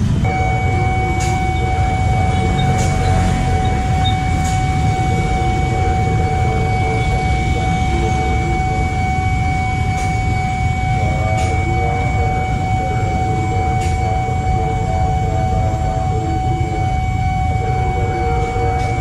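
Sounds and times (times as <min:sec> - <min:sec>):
electric train approaching: 0:00.0 - 0:19.0
level-crossing alarm tone: 0:00.0 - 0:19.0
motorcycles rumbling: 0:00.0 - 0:19.0.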